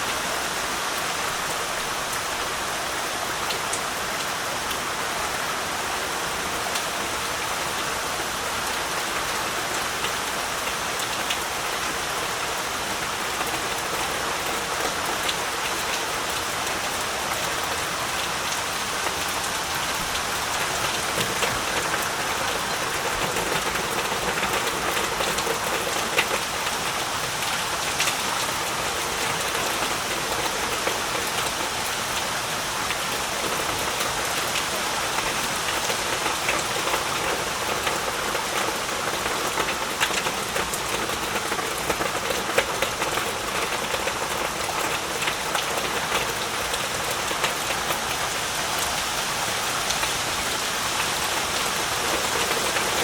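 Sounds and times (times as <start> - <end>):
heavy rain hiss: 0.0 - 53.0
raindrops ticking on surfaces: 0.0 - 53.0.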